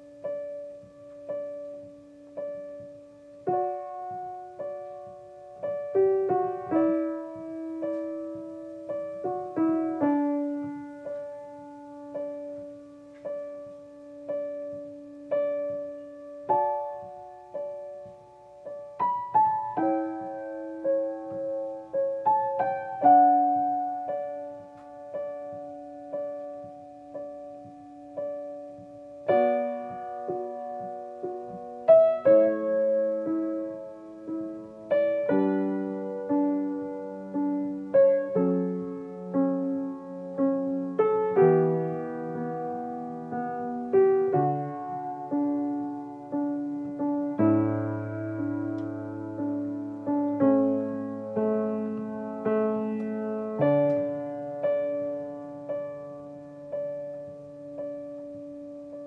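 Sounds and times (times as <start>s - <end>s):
slow solo piano melody: 0.0s - 59.0s.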